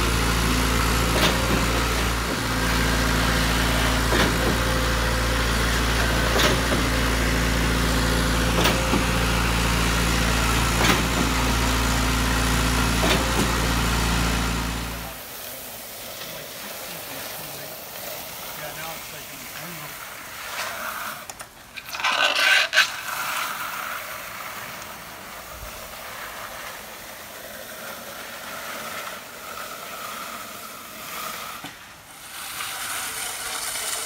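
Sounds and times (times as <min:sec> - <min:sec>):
concrete pump engine running: 0:00.0 - 0:34.0.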